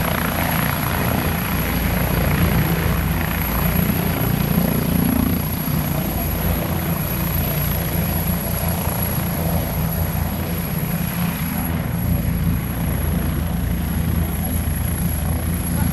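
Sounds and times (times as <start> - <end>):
helicopter rotors and engines: 0.0 - 15.9.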